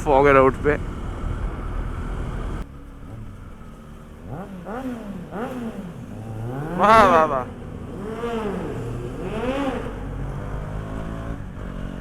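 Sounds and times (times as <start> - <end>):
low riding rumble: 0.0 - 12.0
motorcycle engine revving: 0.0 - 12.0.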